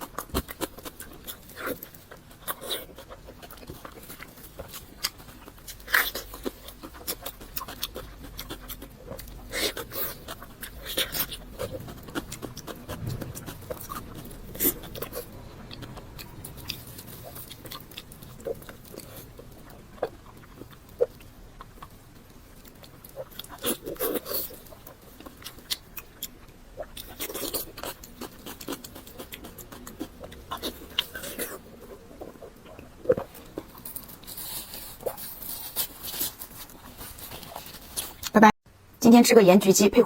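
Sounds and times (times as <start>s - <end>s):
person chewing crunchy food: 0.0s - 38.3s.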